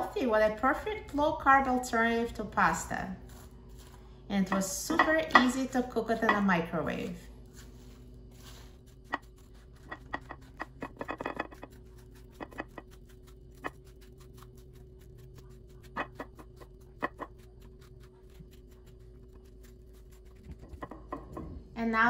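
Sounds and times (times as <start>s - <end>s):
fork scraping squash: 0.2s - 21.6s.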